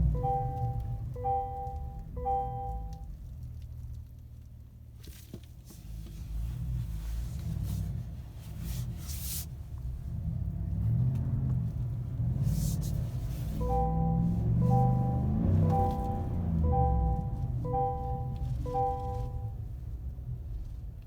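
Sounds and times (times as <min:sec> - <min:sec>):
low vehicle rumble: 0:00.0 - 0:04.0, 0:05.9 - 0:21.0.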